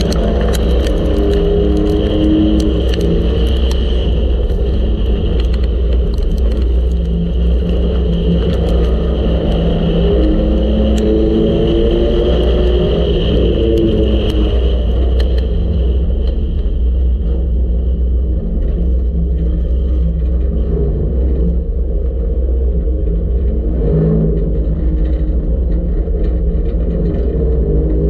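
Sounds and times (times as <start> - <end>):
race car engine rumbling: 0.0 - 28.0.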